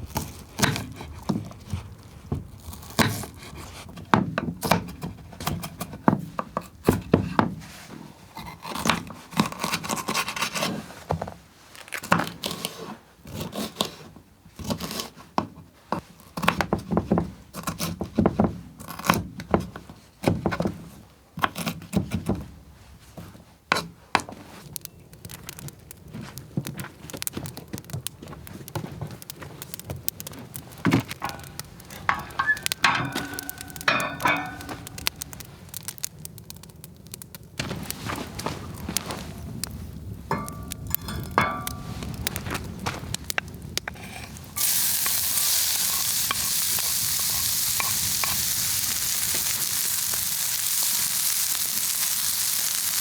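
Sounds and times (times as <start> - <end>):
knocks and scrapes of handling: 0.0 - 24.7, 25.5 - 36.1, 37.6 - 50.3.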